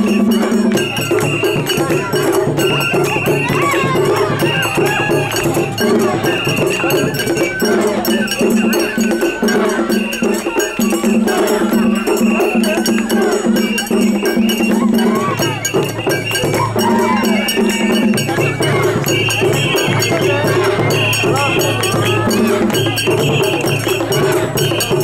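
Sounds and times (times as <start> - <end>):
crowd noise: 0.0 - 25.0.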